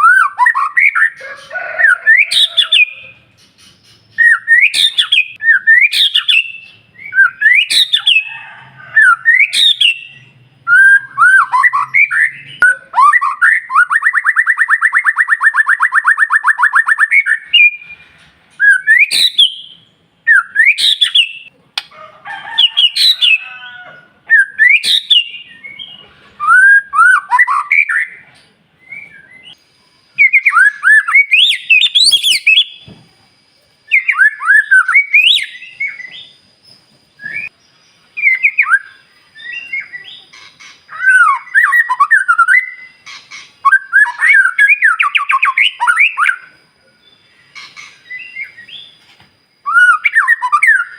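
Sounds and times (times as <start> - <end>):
bird singing whistled notes: 0.0 - 1.2, 1.9 - 8.3, 9.0 - 21.5, 24.3 - 28.2, 28.8 - 50.9.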